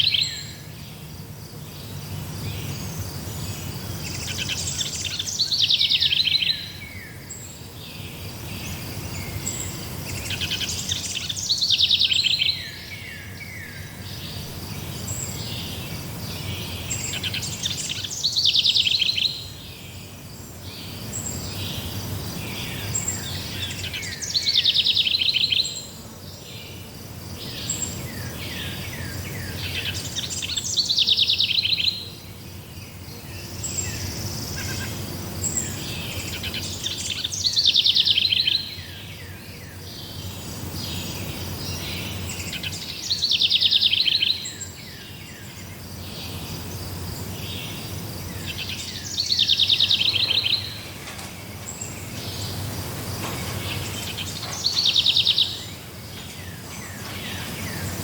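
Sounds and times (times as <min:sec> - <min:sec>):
birds chirping: 0:00.0 - 0:58.0
insects chirping: 0:00.0 - 0:58.0.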